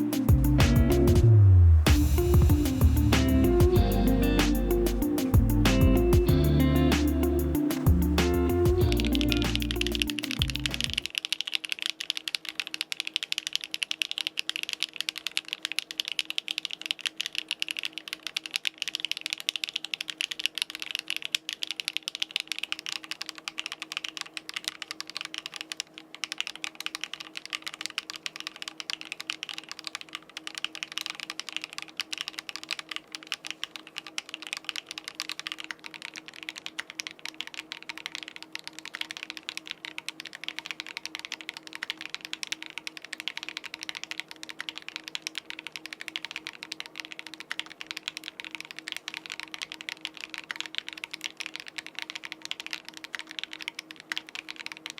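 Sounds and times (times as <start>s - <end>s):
mechanical keyboard typing: 0.0s - 1.2s, 2.0s - 54.9s.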